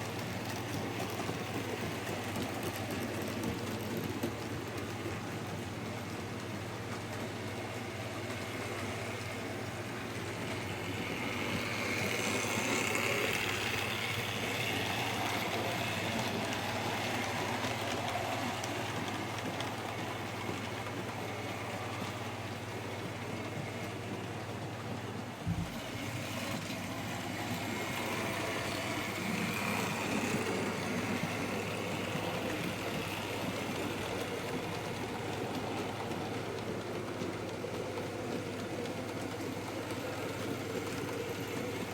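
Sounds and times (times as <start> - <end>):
model train motor hum: 0.0 - 41.9.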